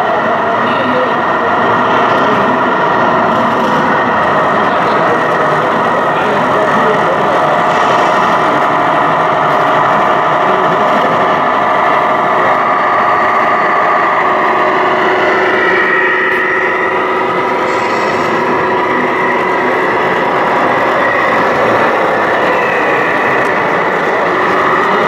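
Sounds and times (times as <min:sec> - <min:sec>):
simulated diesel engine idling: 0:00.3 - 0:25.0.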